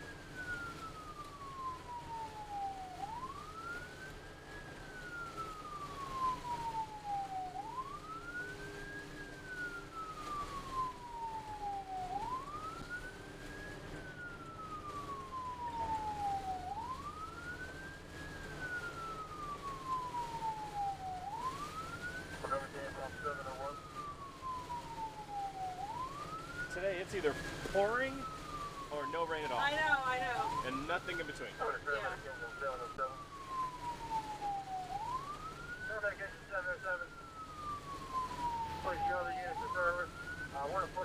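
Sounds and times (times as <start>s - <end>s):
ambulance siren wailing: 0.0s - 41.0s
moving vehicle noise: 0.0s - 41.0s.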